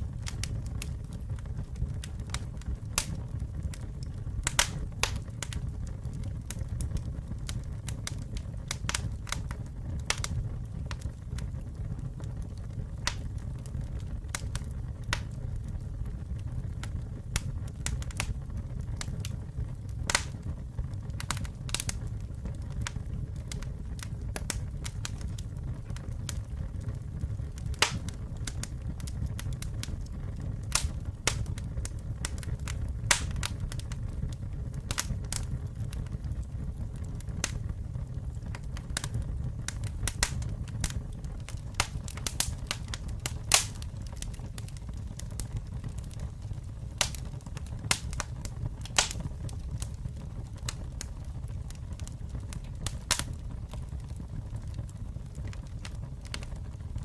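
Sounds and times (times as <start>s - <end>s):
campfire rumbling: 0.0s - 57.0s
fire crackling and popping: 0.0s - 57.0s.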